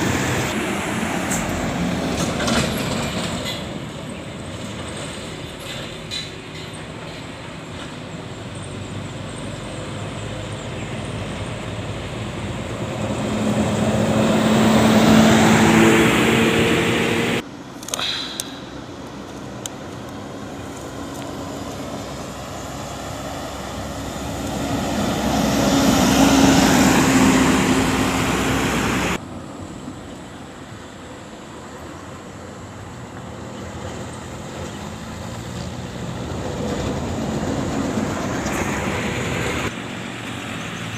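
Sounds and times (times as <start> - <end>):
heavy vehicles passing: 0.0 - 40.9
steady traffic noise: 0.0 - 40.9.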